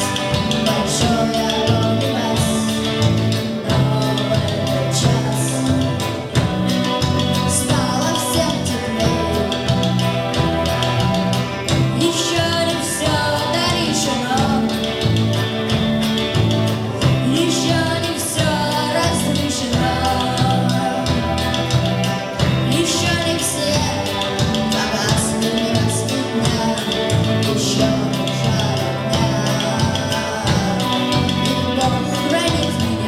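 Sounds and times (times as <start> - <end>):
band song with beat and bass: 0.0 - 33.0
person singing: 0.0 - 33.0.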